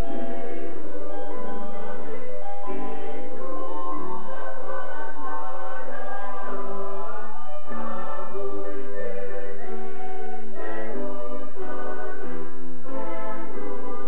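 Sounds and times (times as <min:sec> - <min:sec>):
mixed choir singing in harmony: 0:00.0 - 0:14.0.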